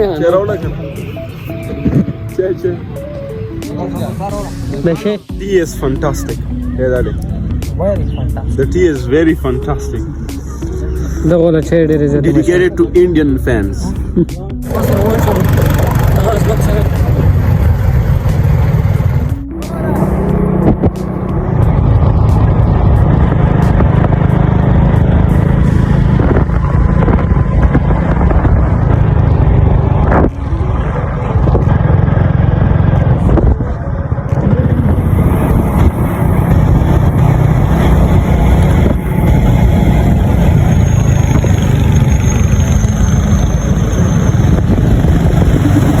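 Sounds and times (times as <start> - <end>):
motorcycle engine rumble: 0.0 - 46.0
road noise: 0.0 - 46.0.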